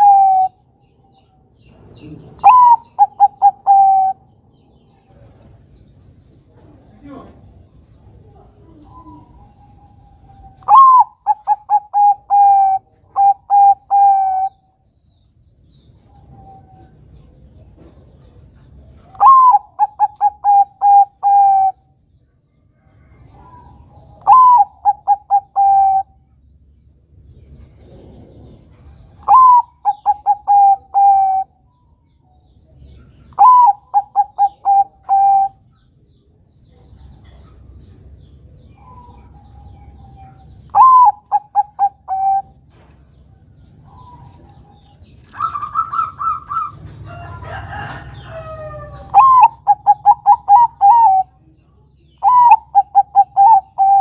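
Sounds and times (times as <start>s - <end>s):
dove cooing song: 0.0s - 5.6s, 6.5s - 14.8s, 16.0s - 22.0s, 22.8s - 26.3s, 27.3s - 35.9s, 36.7s - 54.0s.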